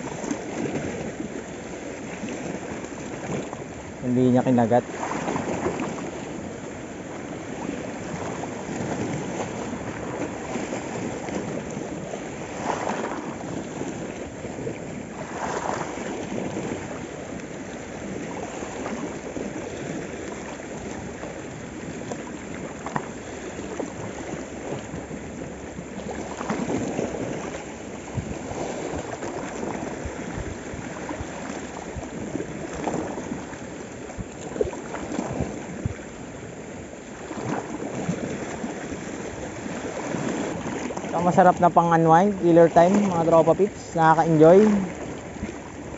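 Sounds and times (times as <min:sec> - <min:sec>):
small waves splashing on rocks: 0:00.0 - 0:45.9.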